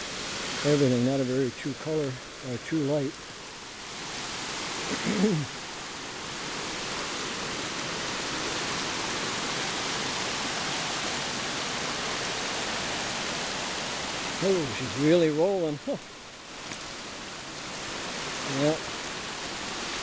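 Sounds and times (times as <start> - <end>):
flooded brook rushing: 0.0 - 20.0.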